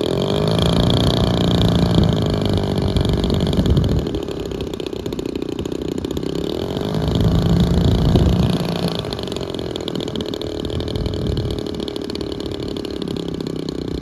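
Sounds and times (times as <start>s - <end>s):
model airplane engine idling: 0.0s - 14.0s.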